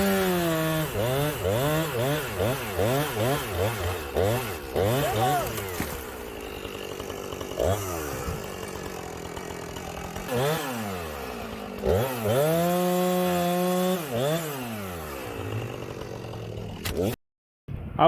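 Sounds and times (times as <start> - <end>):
chainsaw idling and revving: 0.0 - 17.2.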